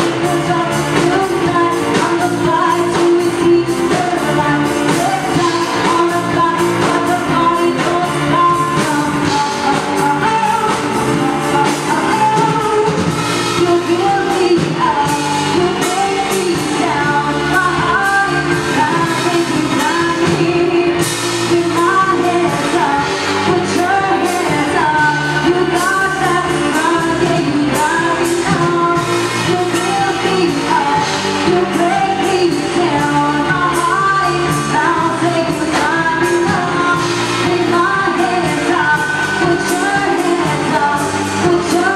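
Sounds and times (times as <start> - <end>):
drums: 0.0 - 41.9
electric guitar: 0.0 - 41.9
woman singing into microphone: 0.0 - 41.9.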